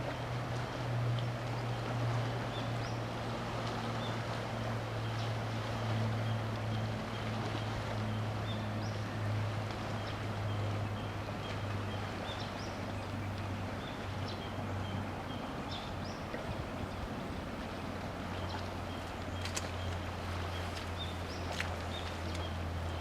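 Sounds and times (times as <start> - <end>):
ship engine drone: 0.0 - 23.0
wind and water hiss: 0.0 - 23.0.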